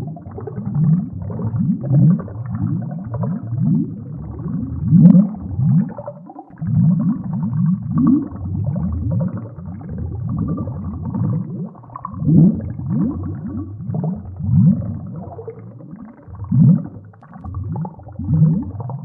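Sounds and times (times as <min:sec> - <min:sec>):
air bubbles gurgling in water: 0:00.0 - 0:19.0.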